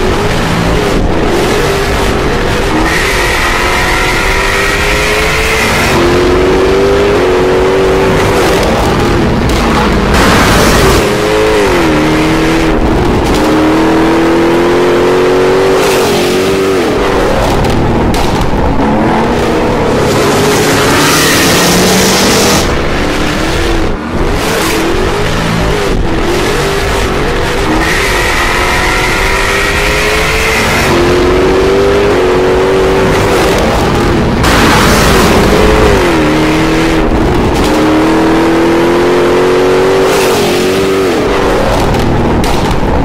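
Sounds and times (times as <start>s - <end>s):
sports car engine accelerating: 0.0s - 43.0s.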